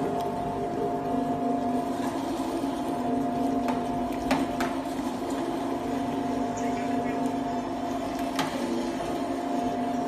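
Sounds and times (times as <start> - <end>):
electric meat grinder humming: 0.0 - 10.0.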